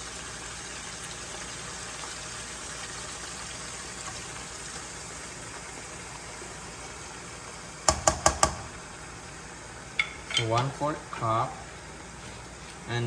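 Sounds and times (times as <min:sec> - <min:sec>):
pork sizzling in a pot: 0:00.0 - 0:13.0.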